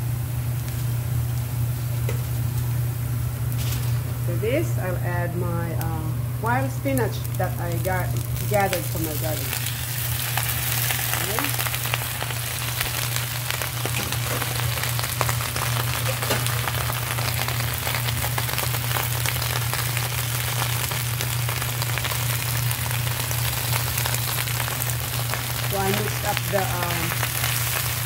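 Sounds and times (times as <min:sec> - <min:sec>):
leaves sizzling in hot oil: 0:00.0 - 0:28.0
steady low hum: 0:00.0 - 0:28.0.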